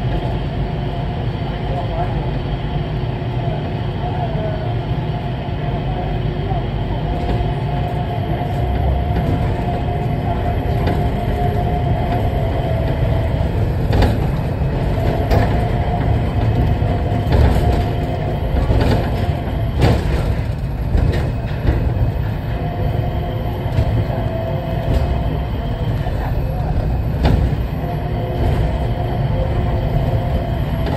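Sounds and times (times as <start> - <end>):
train car low rumble and whine: 0.0 - 30.9.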